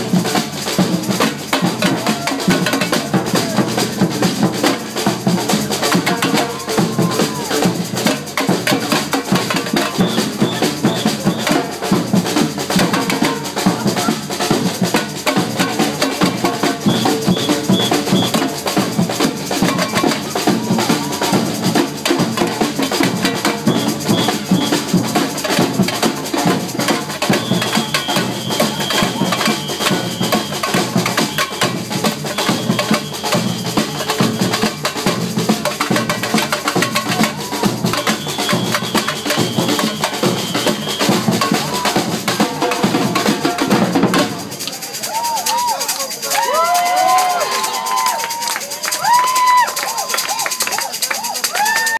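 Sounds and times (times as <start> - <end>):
drum band playing samba rhythm: 0.0 - 51.9.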